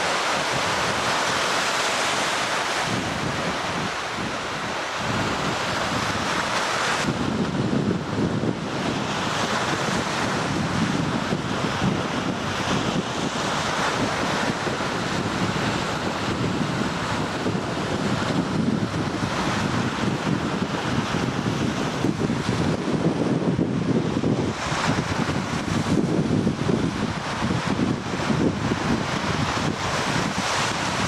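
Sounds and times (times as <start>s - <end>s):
rough lake waves: 0.0s - 31.0s
strong wind on microphone: 0.0s - 31.0s.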